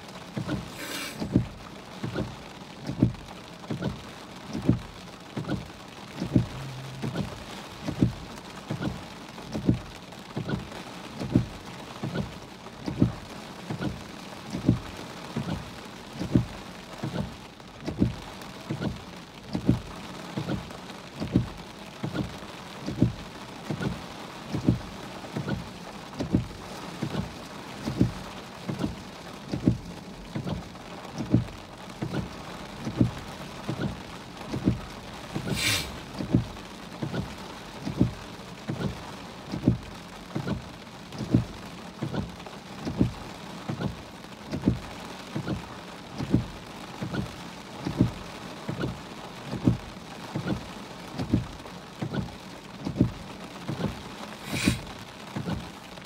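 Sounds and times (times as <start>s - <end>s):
heavy rain on a car: 0.0s - 56.0s
windshield wipers thumping: 0.1s - 56.0s.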